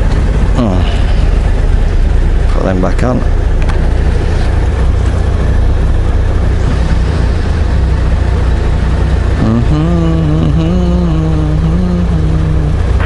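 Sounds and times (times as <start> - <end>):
motorcycle engine idling: 0.0 - 13.0
steady droning tone: 0.0 - 13.0.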